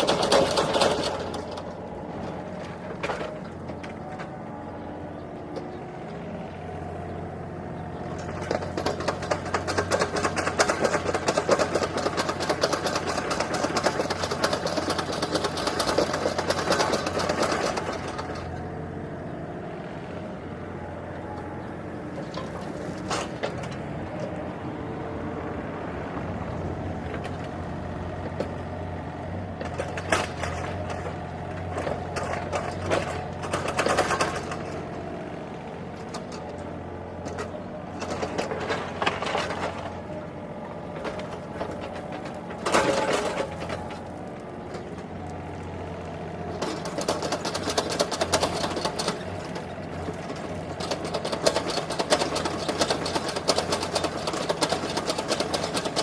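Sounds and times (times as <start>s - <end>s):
digging scraping and clanking: 0.0s - 5.8s, 8.0s - 18.8s, 20.6s - 24.5s, 27.0s - 56.0s
excavator diesel engine clattering: 0.0s - 56.0s.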